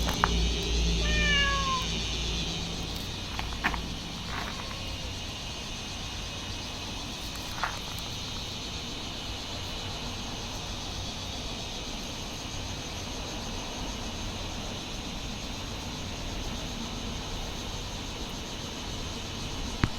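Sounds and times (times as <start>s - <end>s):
steady background hiss: 0.0s - 19.9s.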